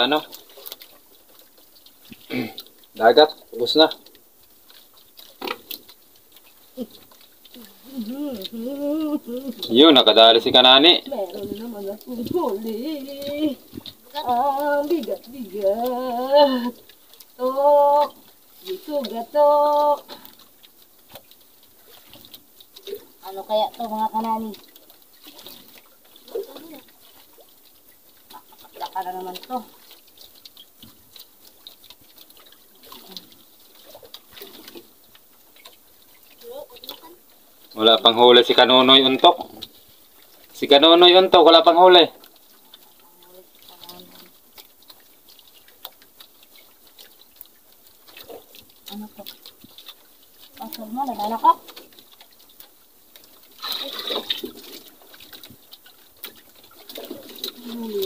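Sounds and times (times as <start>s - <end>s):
rush of water: 0.0s - 58.0s
water lapping against boat hull: 0.0s - 58.0s.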